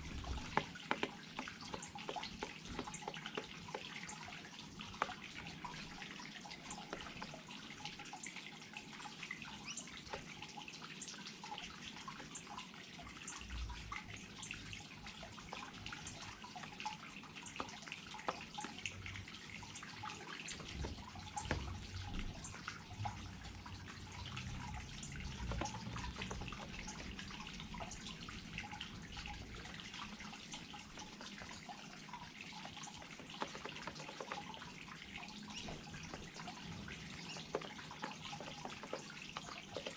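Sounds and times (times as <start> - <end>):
small waterfall trickling and splashing: 0.0 - 39.9.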